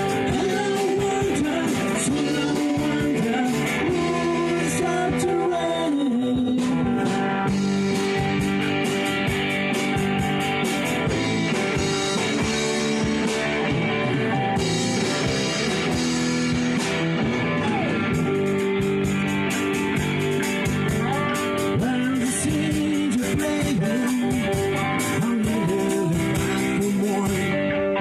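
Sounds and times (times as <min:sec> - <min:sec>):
steady drum beat: 0:00.0 - 0:27.6
rock guitars playing: 0:00.0 - 0:28.0.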